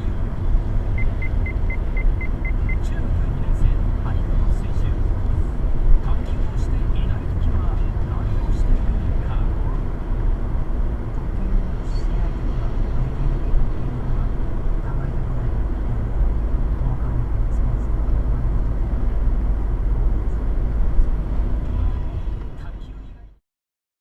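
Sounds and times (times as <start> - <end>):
car cabin road rumble: 0.0 - 23.4.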